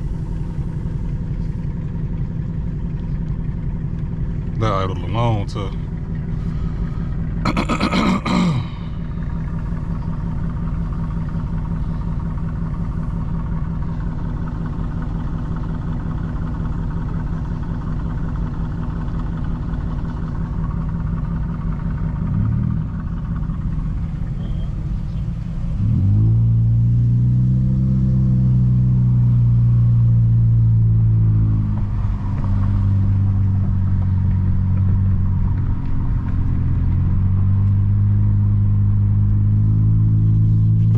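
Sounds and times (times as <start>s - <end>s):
car exhaust idling: 0.0s - 40.9s.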